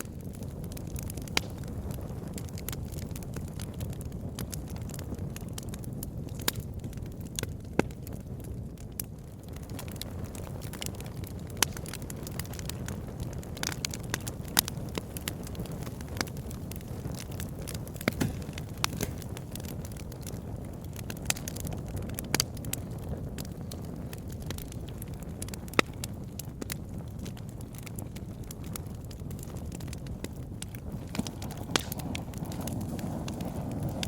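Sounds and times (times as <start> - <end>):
campfire crackling and popping: 0.0 - 34.0
low fire rumble: 0.0 - 34.0.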